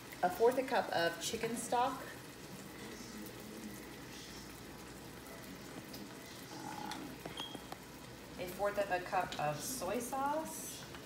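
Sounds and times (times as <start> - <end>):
stock bubbling and sizzling in a wok: 0.0 - 11.0.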